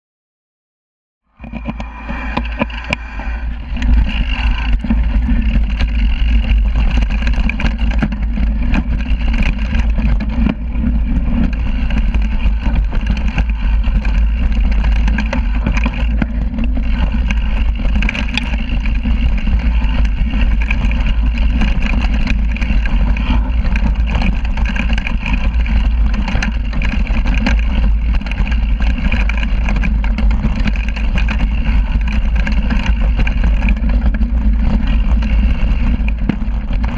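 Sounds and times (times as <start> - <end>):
wind rumble on microphone: 1.3 - 36.9
bike knocking and rattling: 1.4 - 36.9
bike tyre rolling on dirt: 1.4 - 36.9.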